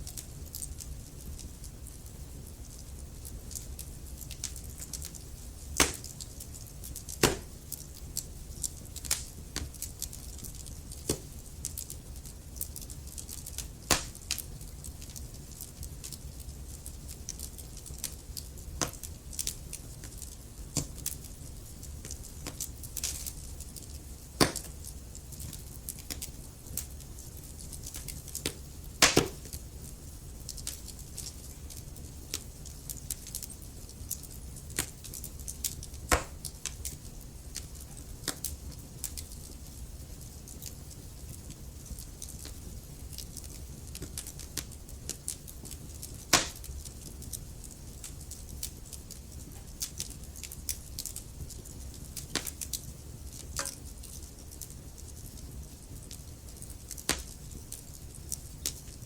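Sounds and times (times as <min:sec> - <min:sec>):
logs crackling and popping: 0:00.0 - 0:59.0
low rumble of flame: 0:00.0 - 0:59.0.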